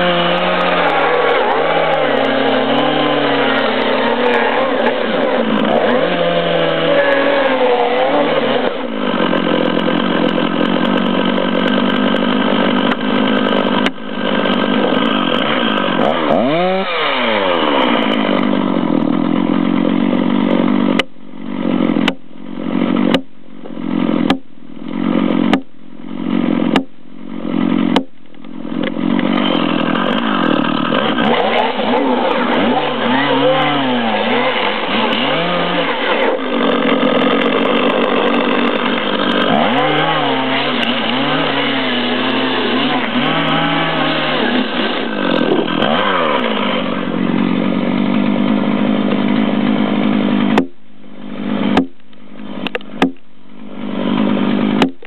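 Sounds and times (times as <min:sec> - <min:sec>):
chainsaw engine running: 0:00.0 - 0:55.0.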